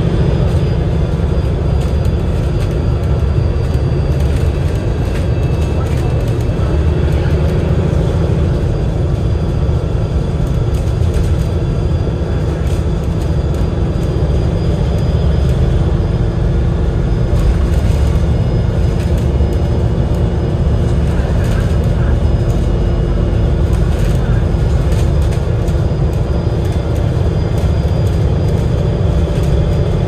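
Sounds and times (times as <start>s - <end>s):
bus engine low rumble: 0.0s - 30.0s.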